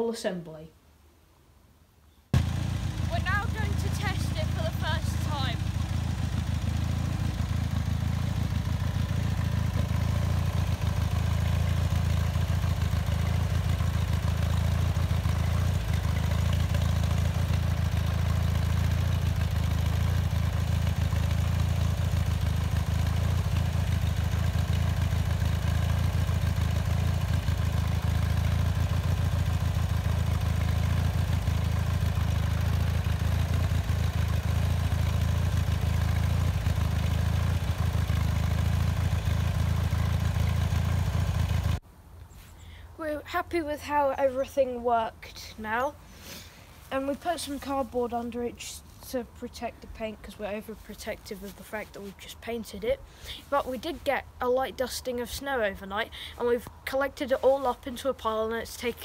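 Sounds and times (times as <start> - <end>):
garden tractor engine running: 2.4 - 41.8, 43.0 - 59.0.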